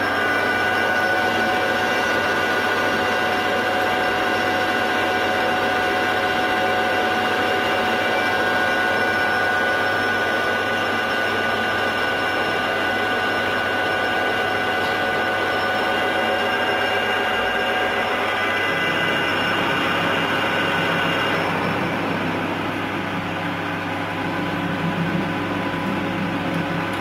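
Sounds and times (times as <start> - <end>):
metal lathe running: 0.0 - 27.0.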